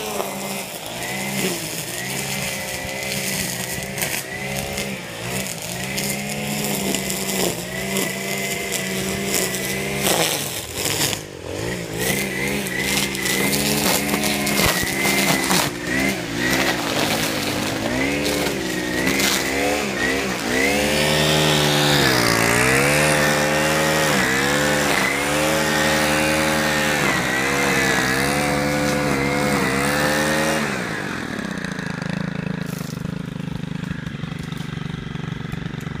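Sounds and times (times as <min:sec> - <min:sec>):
string trimmer engine revving: 0:00.0 - 0:36.0.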